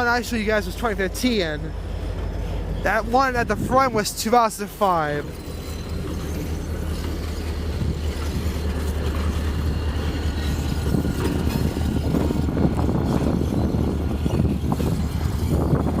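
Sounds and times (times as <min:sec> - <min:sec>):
rough engine rumble: 0:00.0 - 0:16.0.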